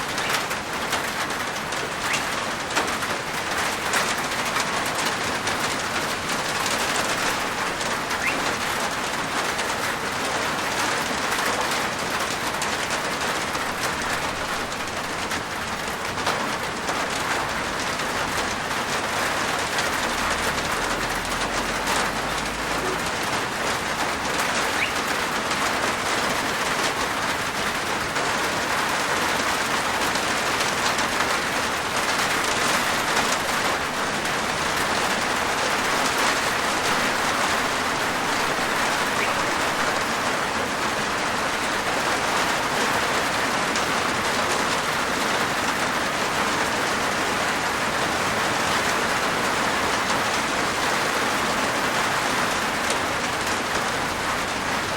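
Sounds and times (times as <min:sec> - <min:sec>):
rain falling on a roof: 0:00.0 - 0:54.9.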